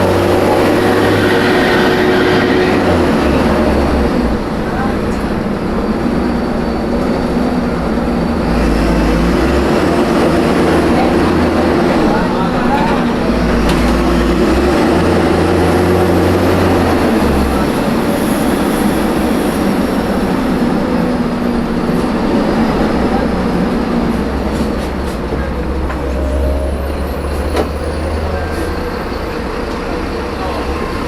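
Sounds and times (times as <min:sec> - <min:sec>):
bus engine droning: 0:00.0 - 0:31.0.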